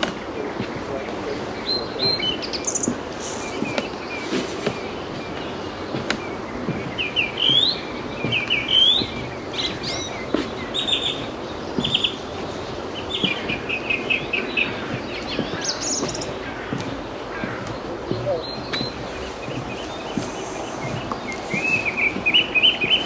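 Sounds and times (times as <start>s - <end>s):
small songbirds singing: 0.0s - 23.0s
steady background noise: 0.0s - 23.0s.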